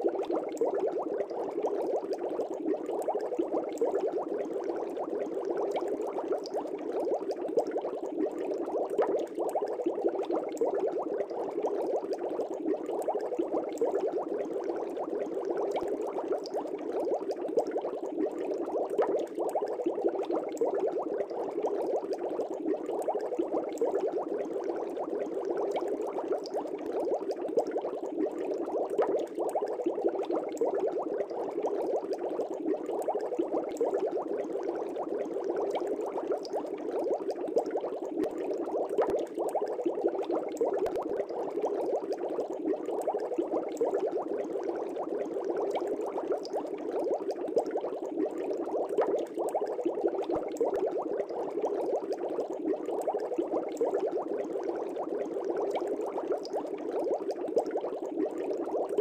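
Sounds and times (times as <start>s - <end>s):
aquarium air bubbles bubbling: 0.0s - 59.0s.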